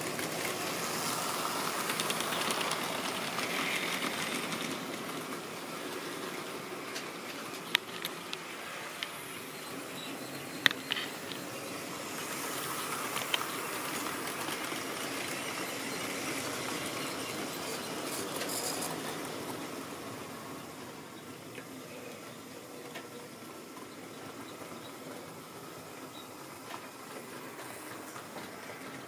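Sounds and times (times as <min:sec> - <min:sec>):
model train wheels rumbling on rails: 0:00.0 - 0:29.0
sharp clicks of train track: 0:00.0 - 0:29.0.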